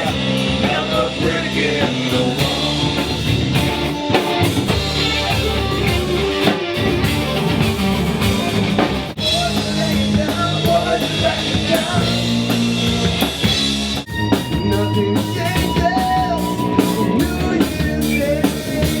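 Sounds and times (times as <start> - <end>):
drum kit: 0.0 - 19.0
electric bass: 0.0 - 19.0
electric guitars: 0.0 - 19.0.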